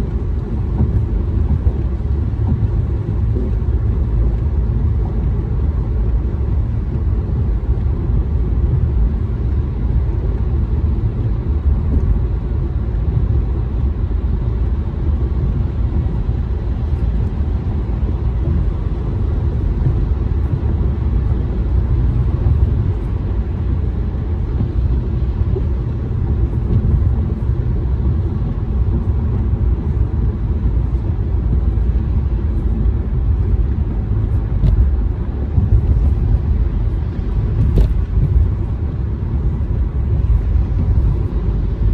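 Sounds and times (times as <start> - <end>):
car cabin road noise: 0.0 - 41.9
engine drone: 0.0 - 41.9.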